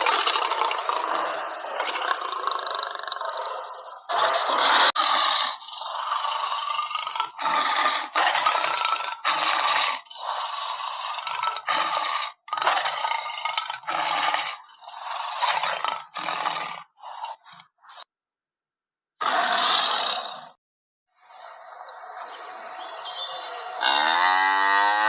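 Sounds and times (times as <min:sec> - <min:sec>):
animal harsh noisy calls: 0:00.0 - 0:18.1, 0:19.2 - 0:20.6, 0:21.2 - 0:25.0.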